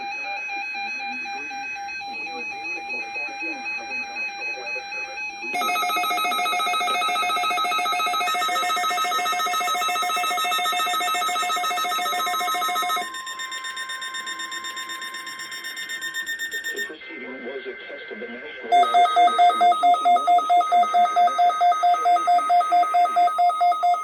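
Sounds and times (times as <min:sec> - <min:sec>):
pulsing electronic alarm: 0:00.0 - 0:17.0, 0:18.7 - 0:24.0
steady single alarm tone: 0:00.4 - 0:16.9, 0:18.7 - 0:24.0.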